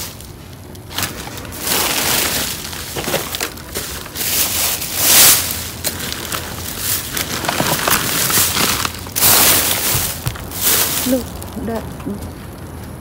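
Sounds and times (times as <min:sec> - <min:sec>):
plastic bags crinkling: 0:00.0 - 0:12.2.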